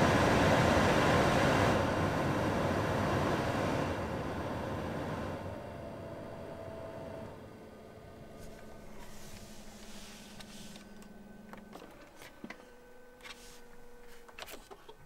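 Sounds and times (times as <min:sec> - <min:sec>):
faint hum inside car: 0:00.0 - 0:15.0.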